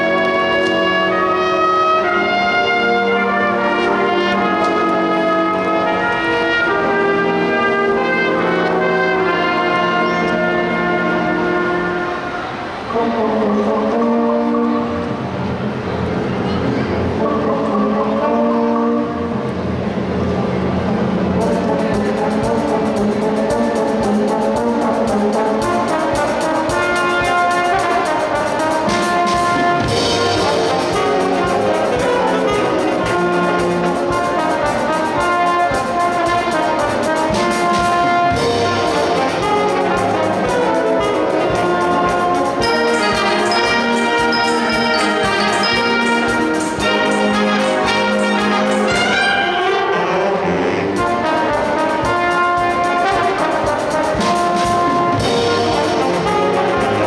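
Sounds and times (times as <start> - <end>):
trumpets and trombones melody: 0.0 - 57.0
wind band playing: 0.0 - 57.0.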